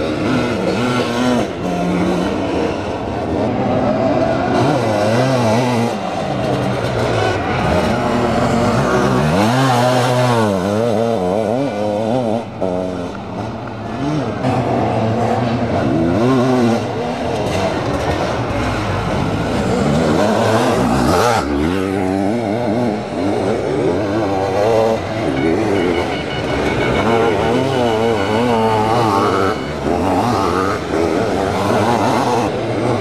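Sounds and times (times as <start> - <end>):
racing motorcycle engines revving: 0.0 - 33.0.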